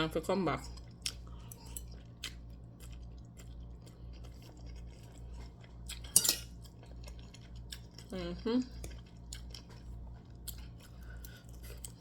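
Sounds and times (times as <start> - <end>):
low electrical hum: 0.0 - 12.0
person chewing: 0.7 - 12.0.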